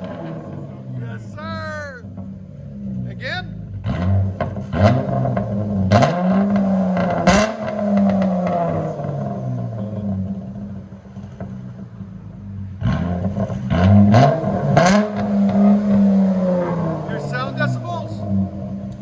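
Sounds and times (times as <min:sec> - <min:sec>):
car engine revving: 0:00.0 - 0:19.0
exhaust cracks: 0:00.0 - 0:19.0.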